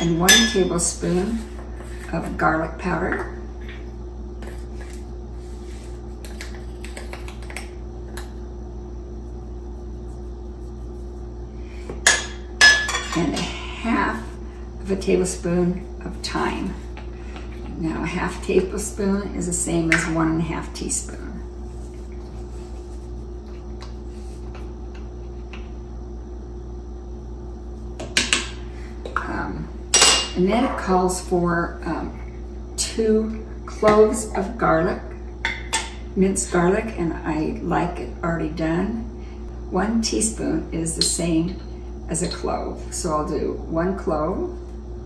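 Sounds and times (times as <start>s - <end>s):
room hum: 0.0s - 45.0s.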